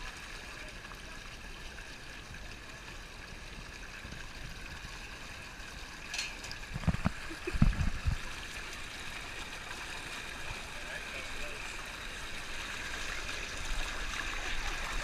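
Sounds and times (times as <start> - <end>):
water running down a waterslide: 0.0 - 15.0.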